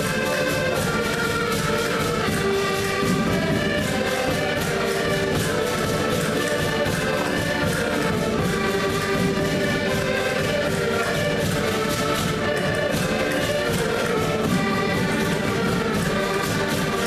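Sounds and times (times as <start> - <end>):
button accordions playing: 0.0 - 17.0.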